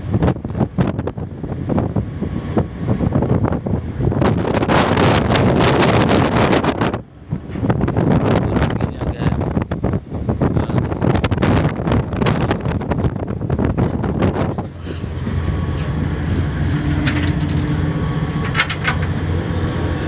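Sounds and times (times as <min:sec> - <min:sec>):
ship engine drone: 0:00.0 - 0:20.0
wind buffeting microphone: 0:00.0 - 0:20.0.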